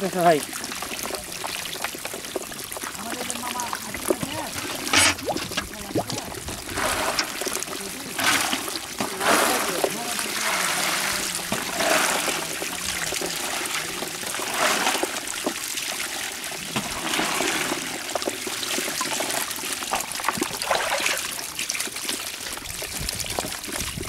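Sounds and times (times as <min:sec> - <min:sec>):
fish splashing: 0:00.0 - 0:24.0
water gushing and splashing: 0:00.0 - 0:24.0.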